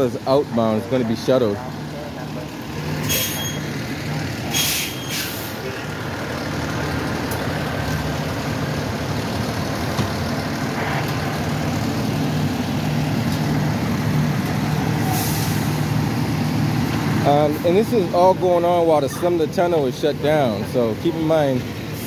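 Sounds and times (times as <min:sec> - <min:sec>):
large engine idling: 0:00.0 - 0:22.0
street traffic: 0:00.0 - 0:22.0.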